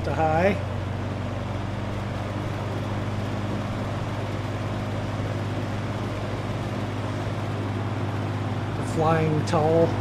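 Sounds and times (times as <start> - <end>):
fan motor hum: 0.0 - 10.0
rush of air from fan: 0.0 - 10.0.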